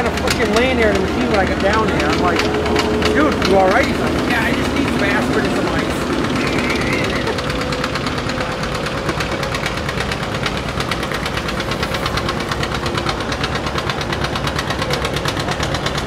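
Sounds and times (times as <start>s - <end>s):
tractor engine popping: 0.0s - 16.0s.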